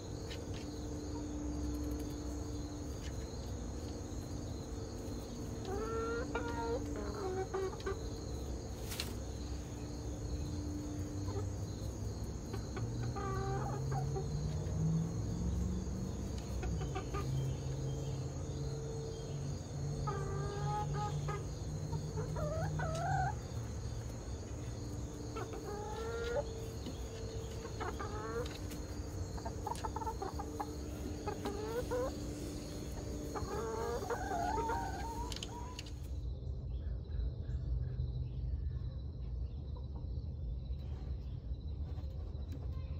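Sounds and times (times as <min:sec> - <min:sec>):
hens clucking and calling: 0:00.0 - 0:36.1.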